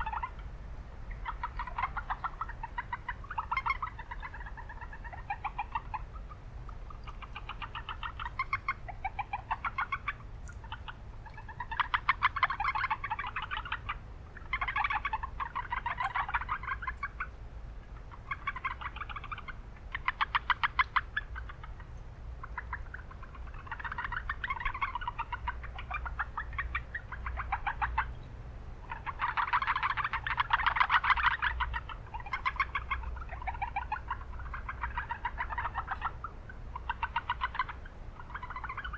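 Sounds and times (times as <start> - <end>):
frogs calling in chorus: 0.0 - 28.2, 28.8 - 38.9
low rumble of city noise: 0.0 - 38.9.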